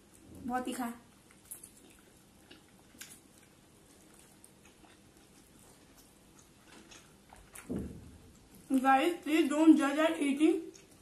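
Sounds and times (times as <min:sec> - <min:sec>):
faint chewing: 0:00.0 - 0:09.5, 0:10.1 - 0:11.0.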